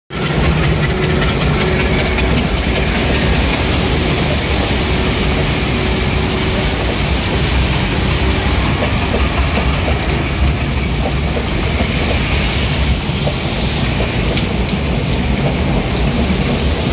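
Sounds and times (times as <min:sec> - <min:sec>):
diesel locomotive rumbling: 0:00.1 - 0:16.9
tyres on wet road: 0:00.1 - 0:16.9
heavy rain: 0:00.2 - 0:16.9.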